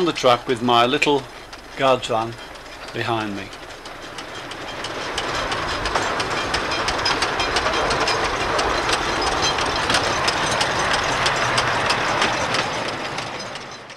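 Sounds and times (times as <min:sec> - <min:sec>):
miniature train running: 0:00.0 - 0:13.9
wheels clicking over rail joints: 0:00.0 - 0:13.9.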